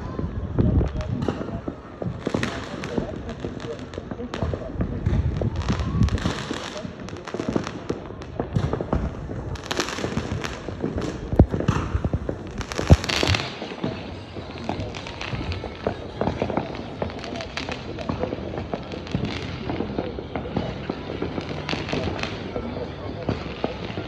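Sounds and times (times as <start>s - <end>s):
fireworks bangs and booms: 0.0s - 24.0s
hissing crackle of fireworks: 0.0s - 24.0s.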